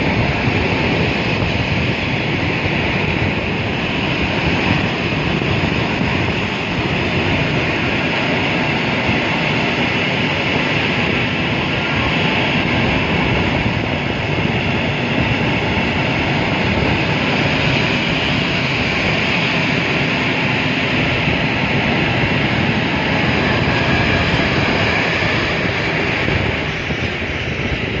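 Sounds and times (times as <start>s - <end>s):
freight train wheels rattling on rails: 0.0s - 28.0s.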